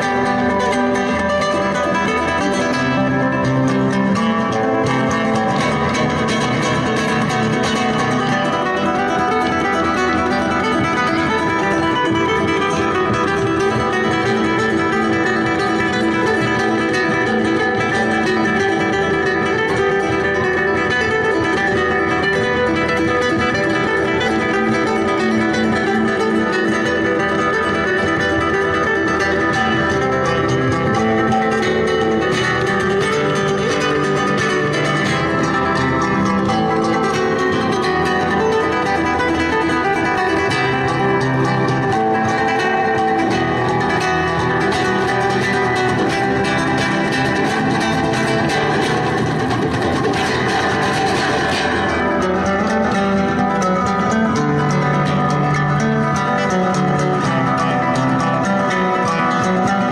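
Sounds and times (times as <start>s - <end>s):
flamenco acoustic guitar: 0.0s - 59.9s.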